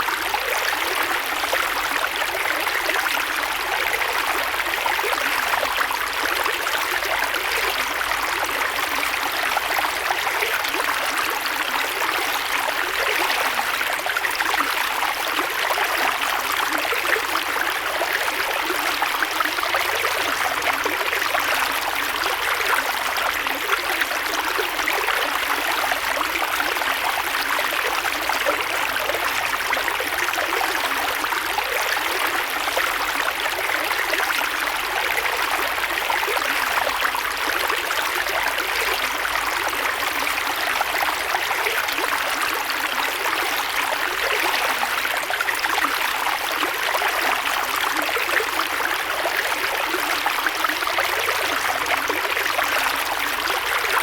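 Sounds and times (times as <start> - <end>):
creek water burbling over stones: 0.0 - 54.0.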